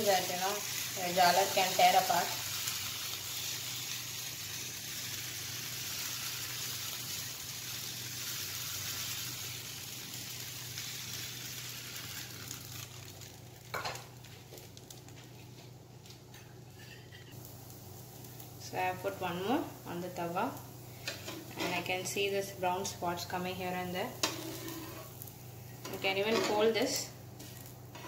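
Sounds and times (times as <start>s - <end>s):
batter sizzling on hot griddle: 0.0s - 28.0s.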